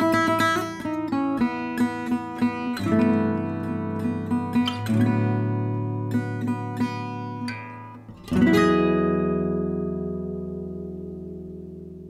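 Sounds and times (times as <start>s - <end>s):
acoustic guitar jazz chords: 0.0s - 12.0s.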